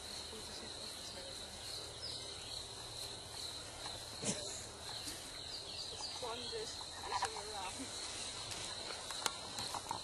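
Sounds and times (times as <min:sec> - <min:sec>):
insect chirring: 0:00.0 - 0:10.0.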